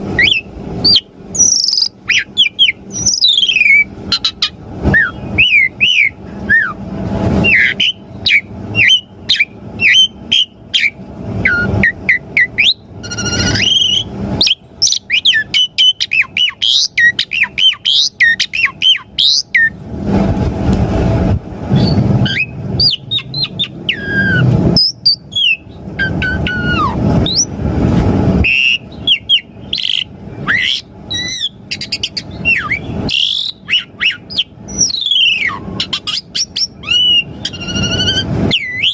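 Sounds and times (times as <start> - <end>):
harsh bird chatter: 0.0 - 6.6, 7.4 - 19.7, 21.8 - 27.5, 28.4 - 38.9
starling singing: 0.0 - 19.8, 21.7 - 27.6, 28.4 - 38.9.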